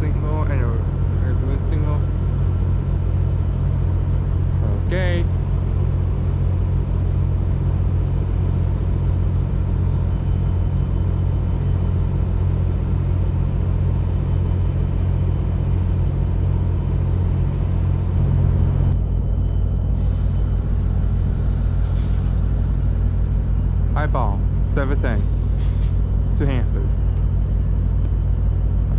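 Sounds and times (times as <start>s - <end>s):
low engine rumble: 0.0s - 28.9s.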